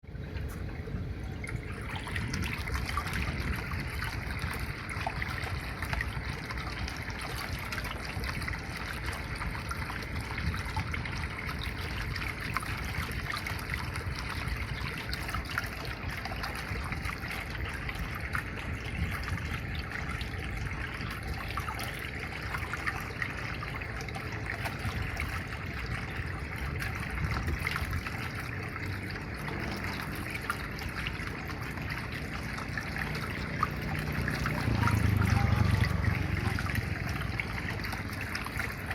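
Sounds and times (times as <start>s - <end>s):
small water splashes: 0.0s - 38.9s
water trickling: 0.0s - 38.9s.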